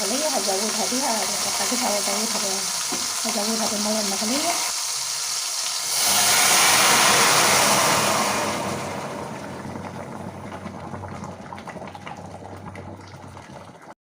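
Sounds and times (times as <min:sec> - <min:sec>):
bubbling and crackling: 0:00.0 - 0:14.0
water poured into sizzling pot: 0:00.0 - 0:14.0.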